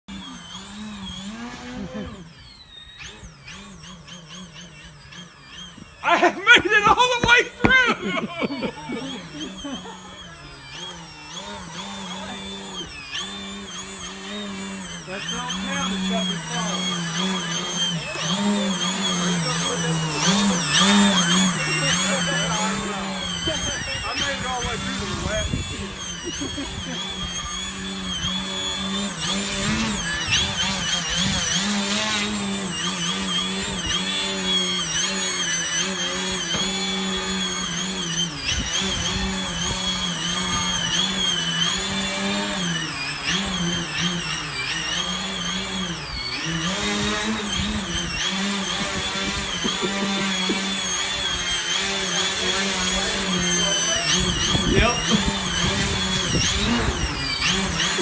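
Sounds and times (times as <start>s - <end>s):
model airplane motor whining: 0.0s - 58.0s.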